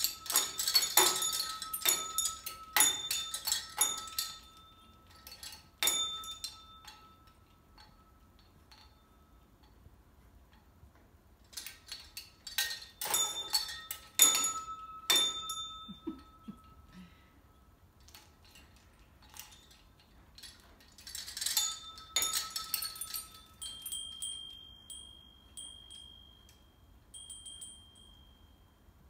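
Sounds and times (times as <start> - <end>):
metal perch and toys clinking: 0.0 - 9.9, 11.4 - 16.9, 18.0 - 28.6.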